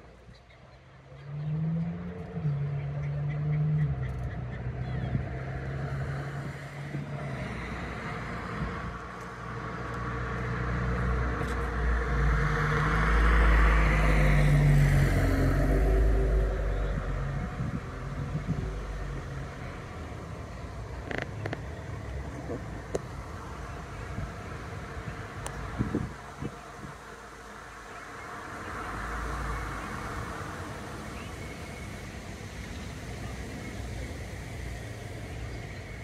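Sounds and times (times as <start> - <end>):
vehicle rumbling past: 0.8 - 36.0.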